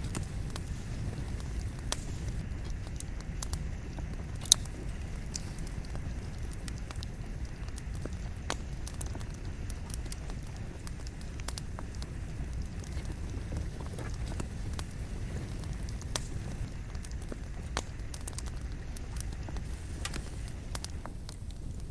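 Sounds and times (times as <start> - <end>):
campfire crackling and popping: 0.0 - 21.9
low steady rumble: 0.0 - 21.9.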